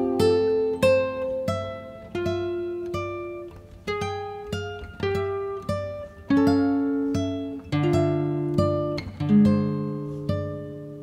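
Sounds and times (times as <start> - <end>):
plucked acoustic guitar melody: 0.0 - 11.0.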